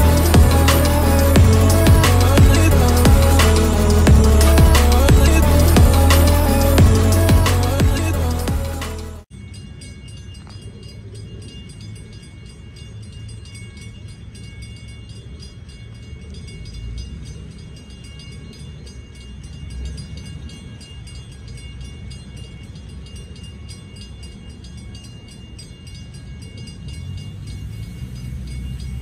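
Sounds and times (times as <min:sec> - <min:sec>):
distant train rumble: 0:00.0 - 0:09.2, 0:10.2 - 0:29.0.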